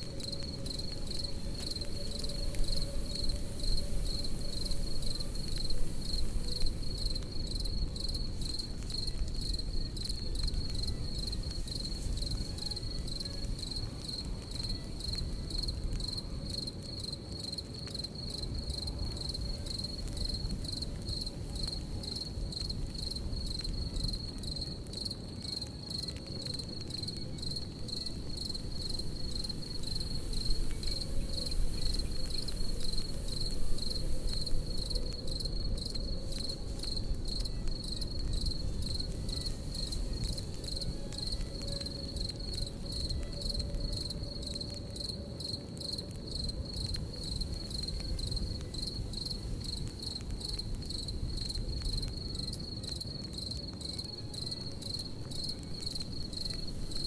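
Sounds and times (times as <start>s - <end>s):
campfire crackling and popping: 0.0s - 57.0s
crickets chirping: 0.0s - 57.0s
low rumble of fire: 0.0s - 57.0s.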